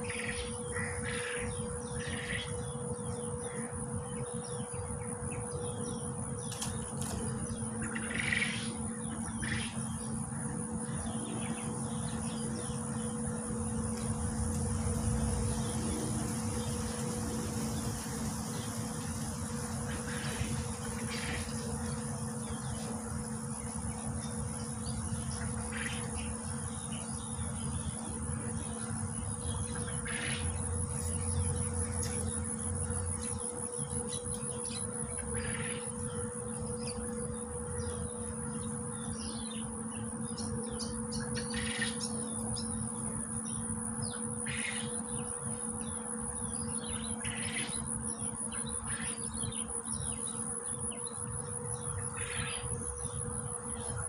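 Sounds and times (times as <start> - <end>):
insects buzzing: 0.0 - 54.0
steady low hum: 0.0 - 54.0
birds calling: 5.4 - 54.0.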